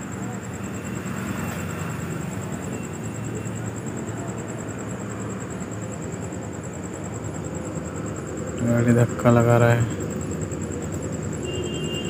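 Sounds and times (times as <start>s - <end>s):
diesel truck engines droning: 0.0s - 12.0s.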